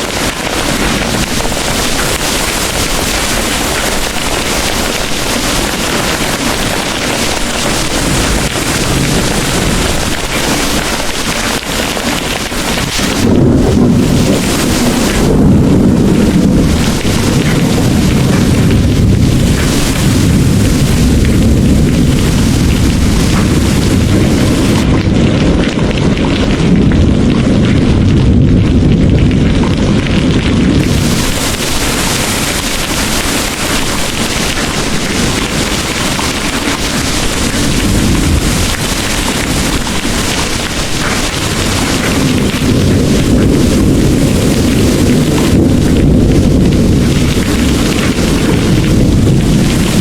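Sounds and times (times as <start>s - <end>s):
heavy rain pouring: 0.0s - 50.0s
rolling thunder: 0.0s - 50.0s.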